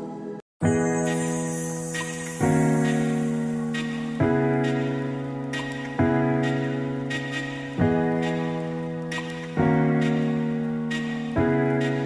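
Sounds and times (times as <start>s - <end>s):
soft keyboard chords: 0.0s - 12.0s.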